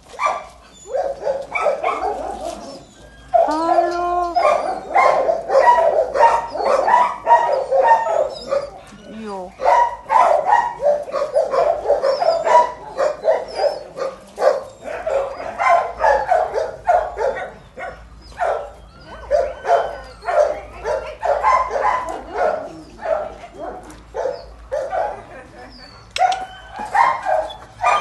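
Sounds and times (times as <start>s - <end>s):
dogs barking: 0.0s - 8.9s, 9.5s - 28.0s.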